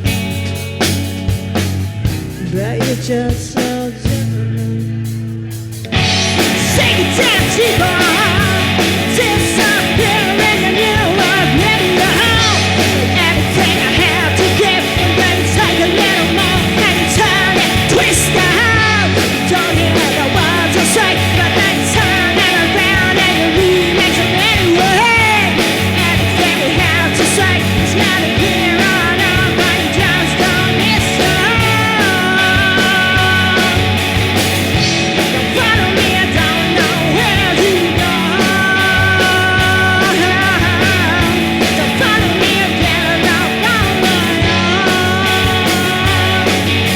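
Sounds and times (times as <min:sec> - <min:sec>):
lead guitar line bending: 0:00.0 - 0:46.9
loud rock band music: 0:00.0 - 0:46.9.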